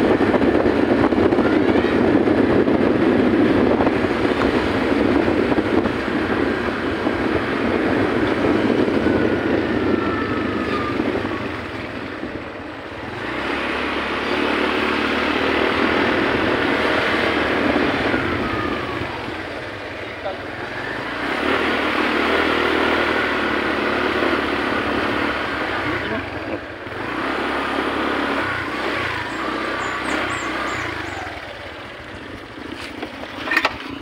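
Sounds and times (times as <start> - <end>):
motor scooter engine running: 0.0 - 34.0
road noise: 0.0 - 34.0.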